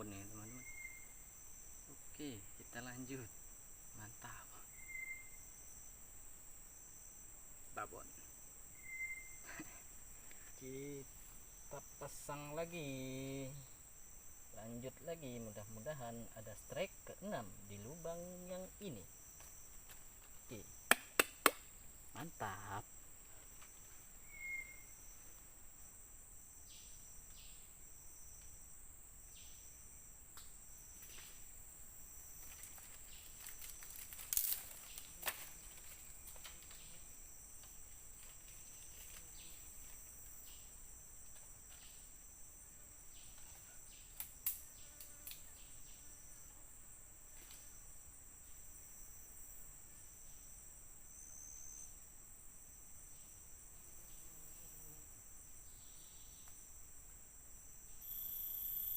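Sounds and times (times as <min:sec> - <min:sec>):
chorus of forest insects: 0:00.0 - 0:58.9.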